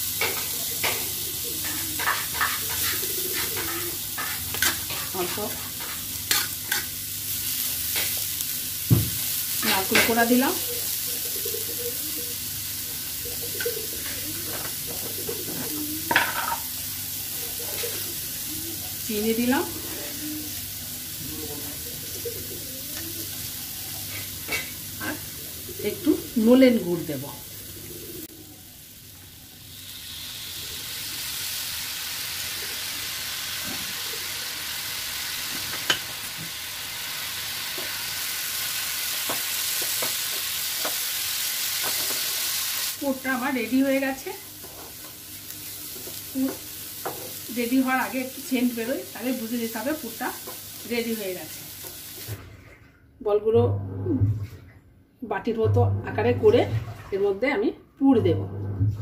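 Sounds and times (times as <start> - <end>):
coconut sizzling in a pan: 0.0 - 52.4.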